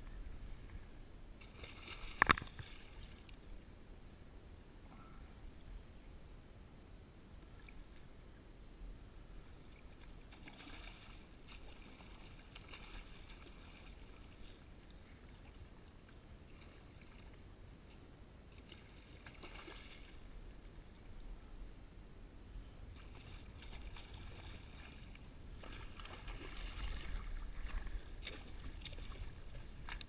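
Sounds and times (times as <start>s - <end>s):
low steady rumble: 0.0s - 30.0s.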